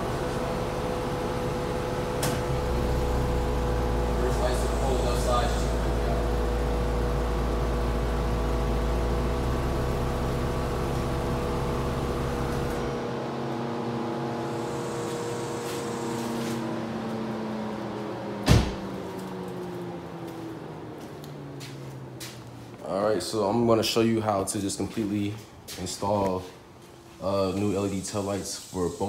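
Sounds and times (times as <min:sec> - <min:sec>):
car engine idling: 0:00.0 - 0:28.5.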